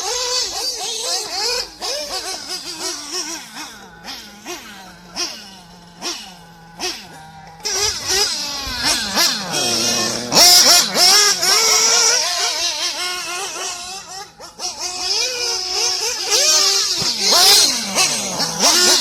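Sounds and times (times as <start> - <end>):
small nitro engine revving: 0.0 - 19.0.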